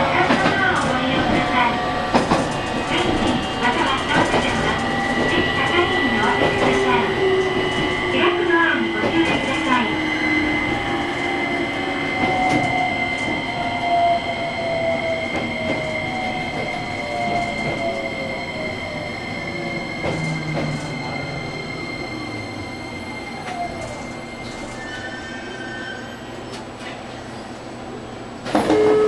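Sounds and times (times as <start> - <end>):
rail and wheel noise: 0.0 - 29.0
electric train motors whining: 0.4 - 24.9.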